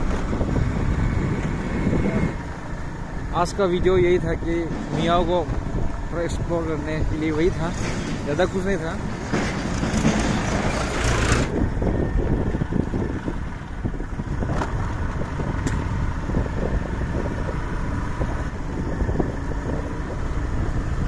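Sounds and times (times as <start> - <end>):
wind on microphone: 0.0 - 7.4, 9.0 - 21.0
motor scooter rumble: 0.0 - 21.0.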